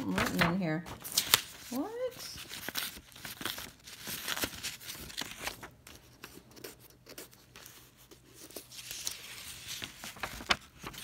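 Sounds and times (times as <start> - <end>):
book pages rustling: 0.0 - 11.0.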